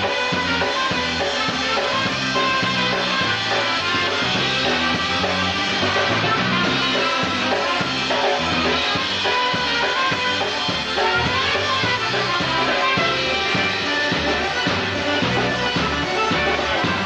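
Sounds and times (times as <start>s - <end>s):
live band playing upbeat song: 0.0s - 17.0s.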